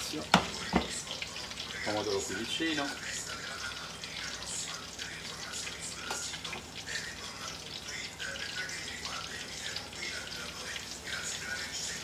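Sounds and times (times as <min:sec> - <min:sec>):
aubergine sizzling in hot oil: 0:00.0 - 0:12.0.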